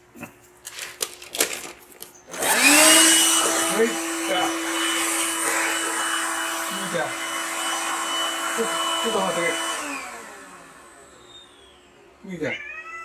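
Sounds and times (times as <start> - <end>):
vacuum cleaner running: 0.7 - 12.2.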